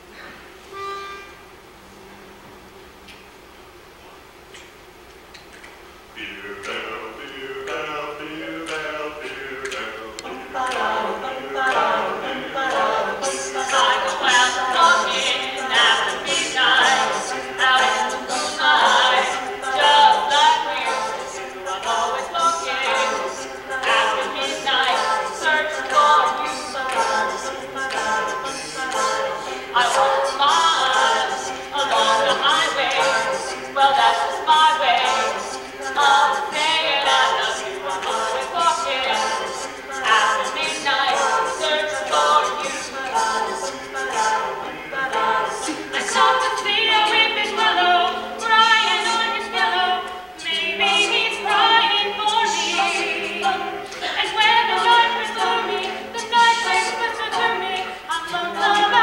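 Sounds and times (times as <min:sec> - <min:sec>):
a cappella group singing: 0:06.1 - 0:59.0.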